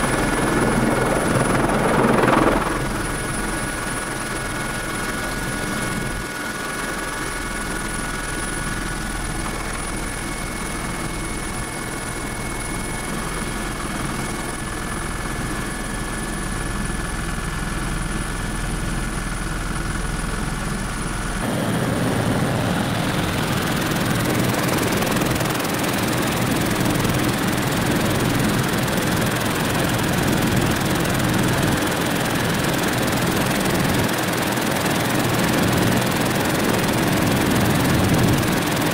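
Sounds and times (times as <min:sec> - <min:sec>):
helicopter rotor and engine noise: 0:00.0 - 0:38.9.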